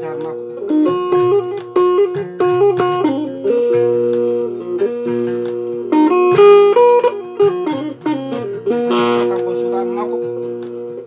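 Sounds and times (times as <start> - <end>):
plucked lute melody: 0.0 - 11.0.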